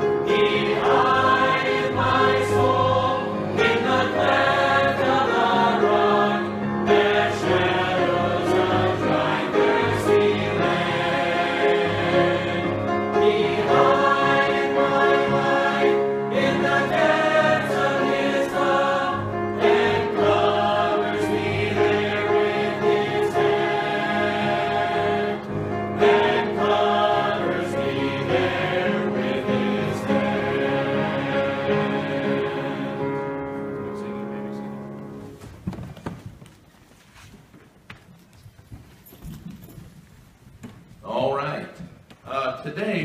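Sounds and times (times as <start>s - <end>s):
congregation singing a hymn: 0.0s - 35.4s
piano: 0.0s - 42.3s.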